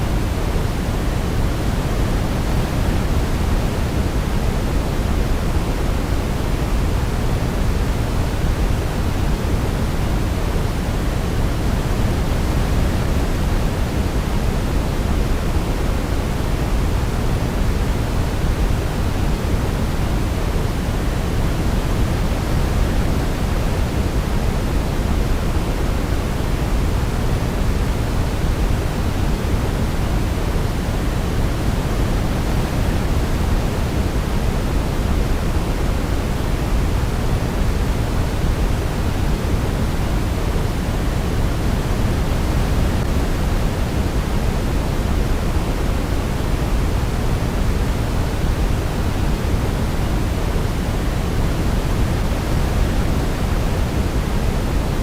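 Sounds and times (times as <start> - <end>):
deep pink noise: 0.0 - 55.0.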